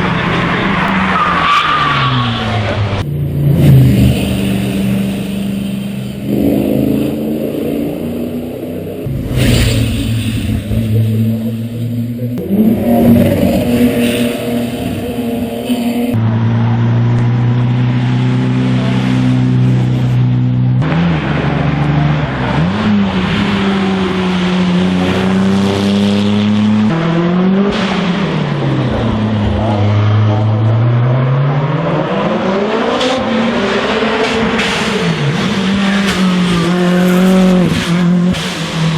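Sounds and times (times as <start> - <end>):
racing car engine at high revs: 0.0 - 38.9.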